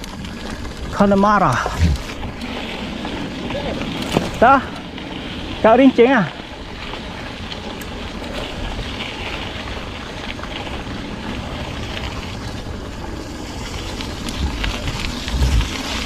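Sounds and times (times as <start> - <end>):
tyres rumbling on dirt: 0.0 - 16.0
wind rush on microphone: 0.0 - 16.0.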